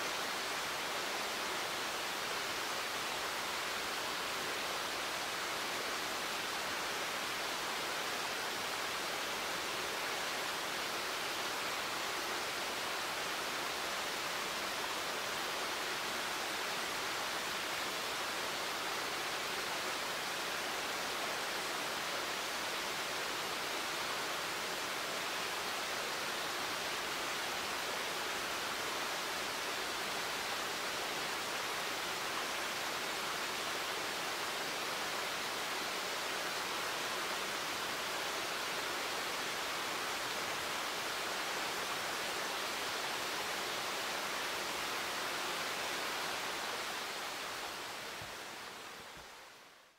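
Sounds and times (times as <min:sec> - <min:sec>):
steady hiss: 0:00.0 - 0:49.9.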